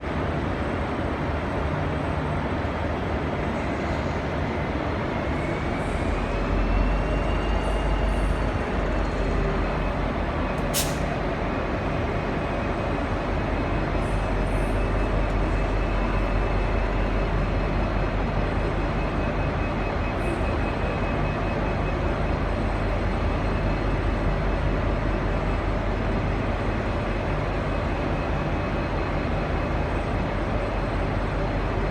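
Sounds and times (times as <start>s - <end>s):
diesel locomotive engine rumbling: 0.0s - 31.9s
rising locomotive whine: 0.0s - 31.9s.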